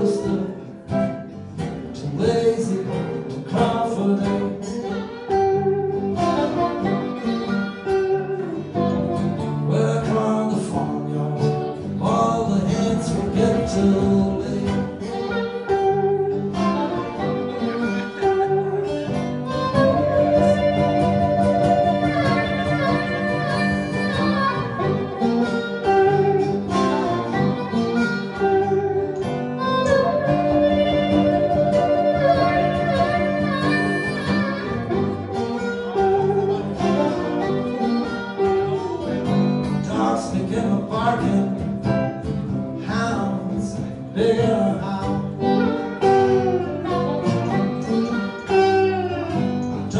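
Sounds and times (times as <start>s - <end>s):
harmonica solo: 0.0s - 9.7s, 11.7s - 40.1s, 44.8s - 49.9s
guitars accompanying: 0.0s - 49.9s.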